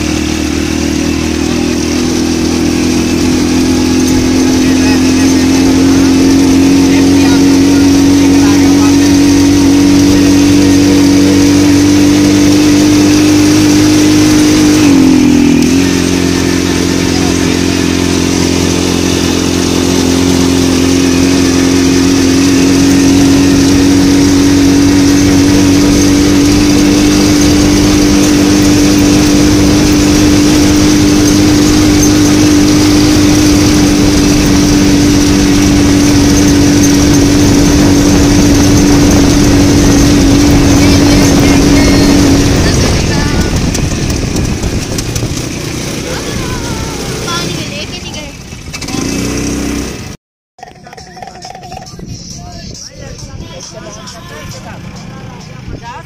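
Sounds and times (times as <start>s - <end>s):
small vehicle engine droning: 0.0s - 56.0s.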